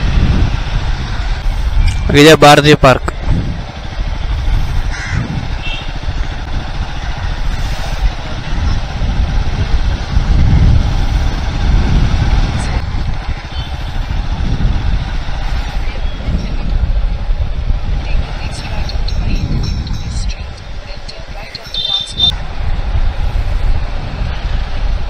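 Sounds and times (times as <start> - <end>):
wind buffeting microphone: 0.0 - 25.0
motorcycle engine running: 3.1 - 23.2.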